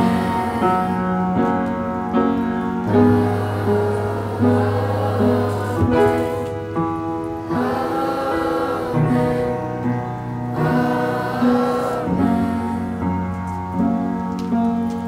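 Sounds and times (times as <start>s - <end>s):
boys singing together: 0.0s - 1.8s, 2.8s - 13.4s.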